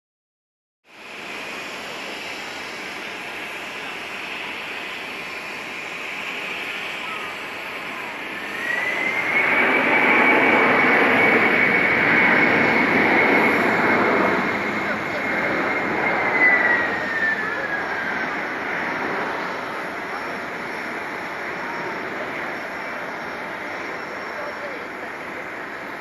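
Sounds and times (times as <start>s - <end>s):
jet engine high whine: 0.8s - 26.0s
jet engine rumble: 0.9s - 26.0s.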